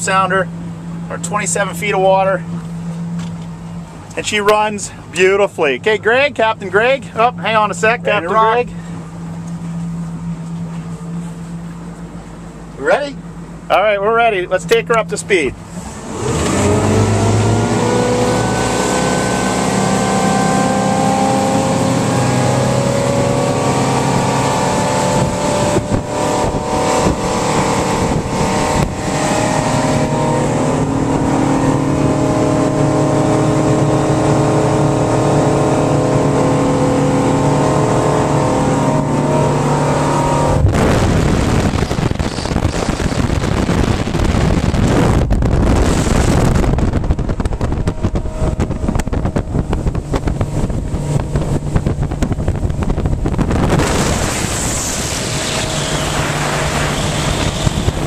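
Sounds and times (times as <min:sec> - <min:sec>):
boat engine accelerating: 0:00.0 - 0:58.0
rush of wind and water: 0:00.0 - 0:58.0.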